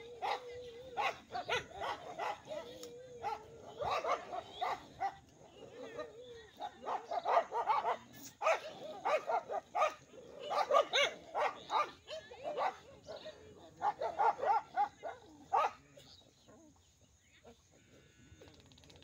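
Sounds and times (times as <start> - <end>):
dogs barking: 0.0 - 16.5.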